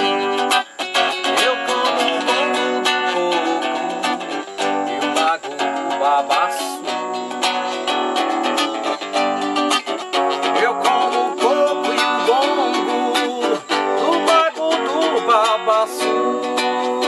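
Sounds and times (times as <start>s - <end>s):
man singing with vibrato: 0.0s - 17.0s
strummed guitar: 0.0s - 17.0s.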